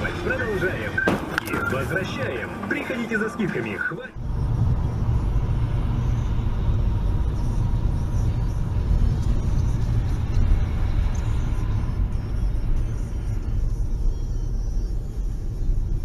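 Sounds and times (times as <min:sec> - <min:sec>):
car road and engine rumble: 0:00.0 - 0:16.0
music on car radio: 0:00.0 - 0:16.0.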